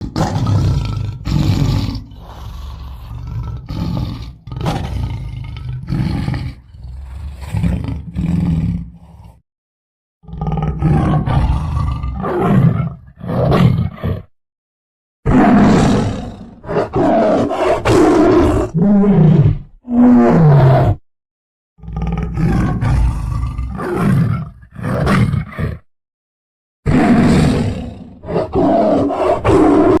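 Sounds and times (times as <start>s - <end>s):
tiger roaring and growling: 0.0s - 9.4s, 10.2s - 14.3s, 15.3s - 21.0s, 21.8s - 25.9s, 26.9s - 30.0s.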